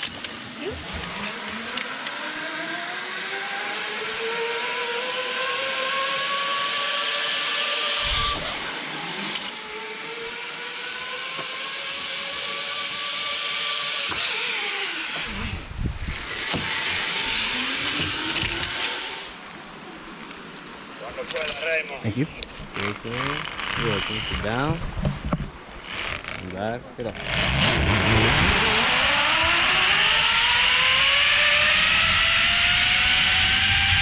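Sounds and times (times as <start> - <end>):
zipline pulleys whining on cable: 0.0 - 19.5, 22.7 - 24.8, 25.8 - 34.0.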